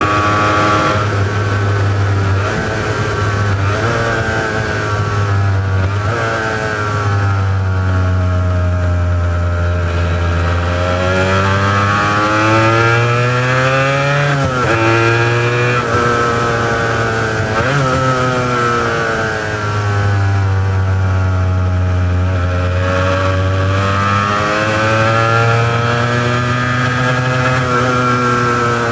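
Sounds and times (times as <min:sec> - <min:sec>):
two-stroke motorcycle engine: 0:00.0 - 0:28.9.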